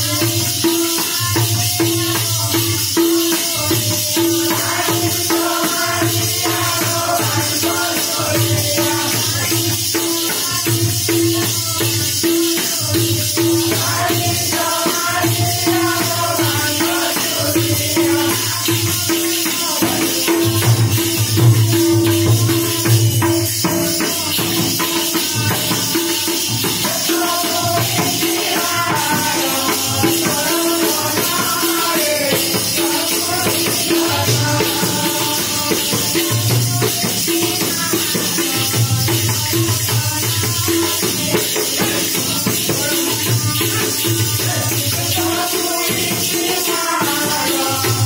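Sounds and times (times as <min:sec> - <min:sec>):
group singing: 0:00.0 - 0:48.0.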